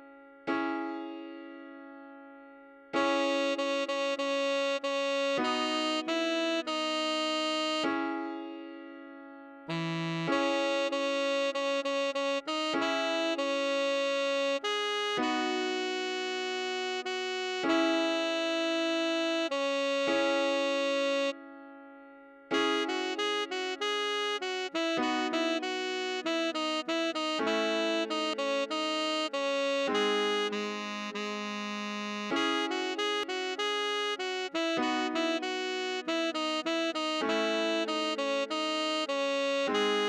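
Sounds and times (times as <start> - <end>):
synthesized saxophone melody: 3.0 - 8.6, 9.7 - 21.4, 22.5 - 40.0.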